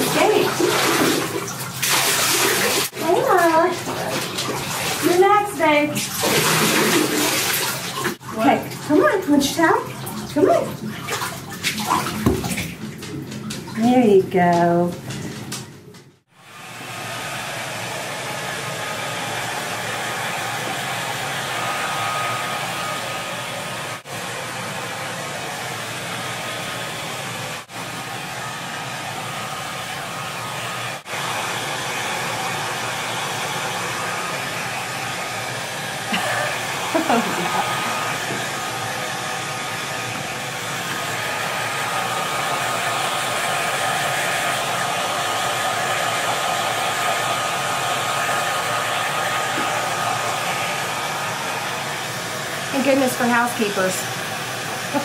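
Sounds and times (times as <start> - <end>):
hair dryer blowing: 0.0 - 9.8, 16.2 - 55.0.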